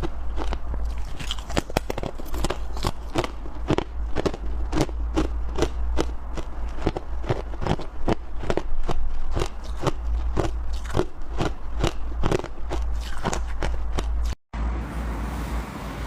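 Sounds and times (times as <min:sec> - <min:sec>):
ice being chewed: 0:00.0 - 0:14.4
constant low hum: 0:00.0 - 0:15.0.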